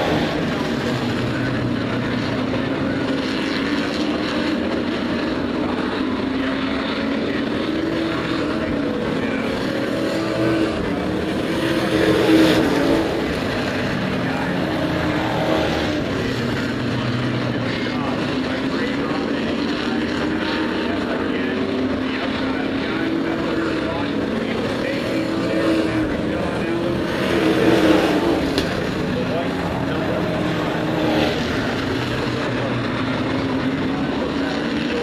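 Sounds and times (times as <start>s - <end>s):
race truck engines droning: 0.0s - 35.0s.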